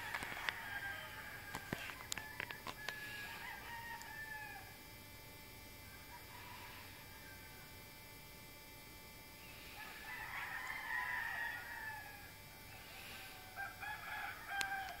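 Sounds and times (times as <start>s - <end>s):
rooster crowing: 0.0s - 4.8s, 5.8s - 7.8s, 9.5s - 15.0s.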